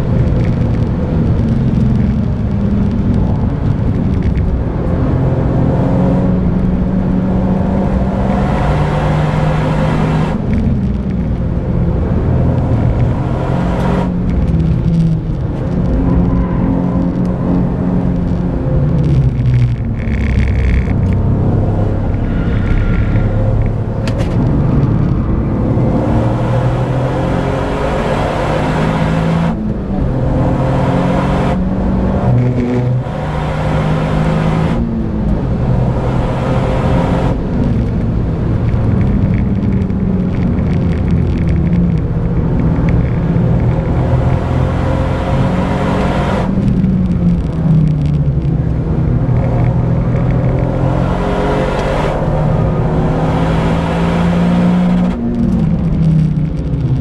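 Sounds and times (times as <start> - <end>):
car engine driven hard: 0.0 - 57.0
road and tyre noise: 0.0 - 57.0.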